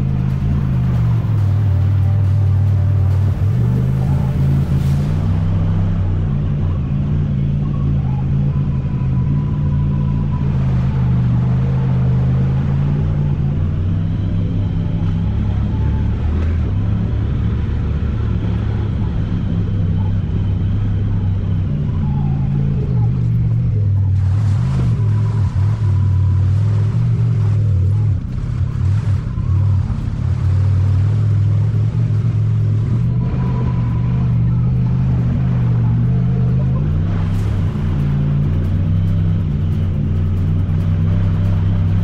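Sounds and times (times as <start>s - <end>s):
utility vehicle engine running: 0.0s - 42.0s.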